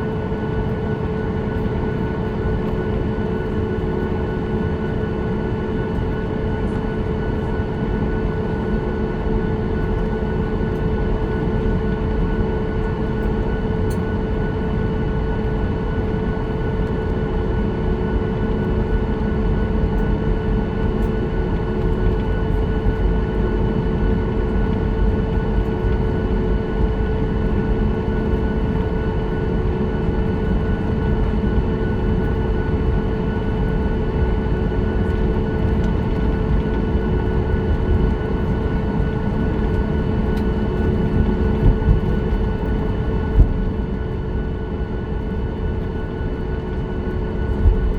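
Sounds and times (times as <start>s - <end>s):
aircraft cabin low rumble: 0.0s - 47.9s
steady hum tones: 0.0s - 47.9s.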